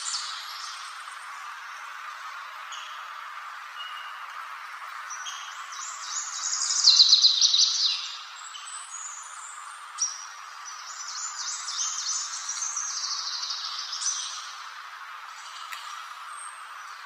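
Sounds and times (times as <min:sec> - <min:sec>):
background hiss: 0:00.0 - 0:17.0
songbird singing: 0:00.0 - 0:17.0.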